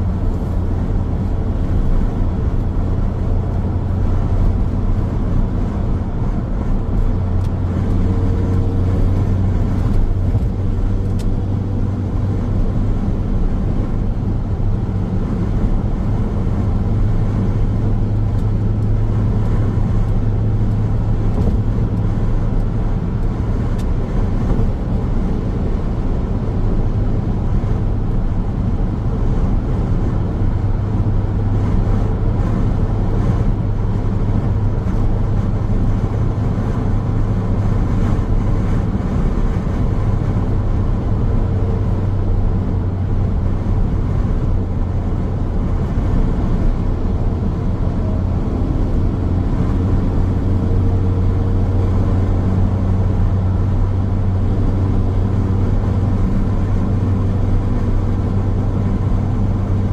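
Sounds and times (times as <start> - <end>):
car engine hum: 0.0 - 59.9
road and tyre rumble: 0.0 - 59.9.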